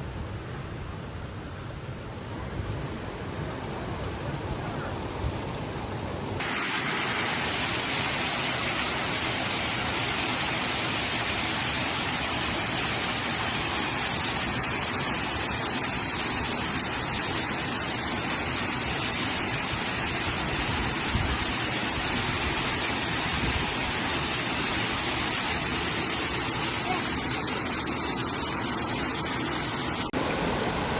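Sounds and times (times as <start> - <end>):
waterfall rushing: 1.9 - 30.9.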